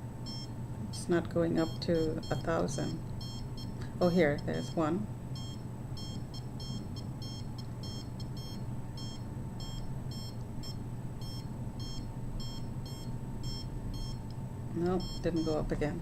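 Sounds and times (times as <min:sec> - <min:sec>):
steady low hum: 0:00.0 - 0:16.0
meter beeping in high chirps: 0:00.2 - 0:00.5, 0:01.6 - 0:14.2, 0:15.0 - 0:15.8.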